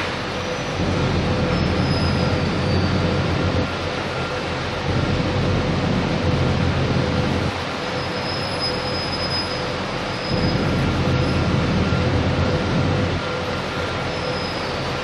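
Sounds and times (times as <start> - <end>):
constant hum: 0.0 - 15.0
faint high whine: 0.4 - 15.0.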